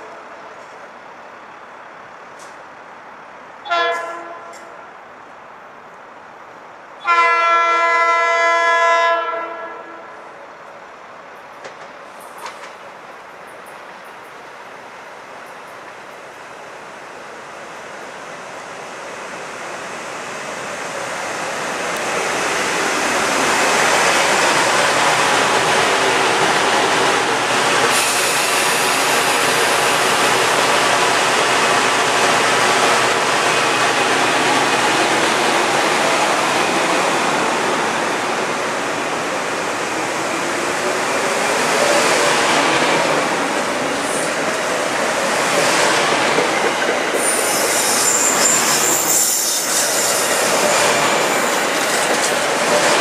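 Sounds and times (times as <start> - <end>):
train wheels rushing on rails: 10.2 - 53.0.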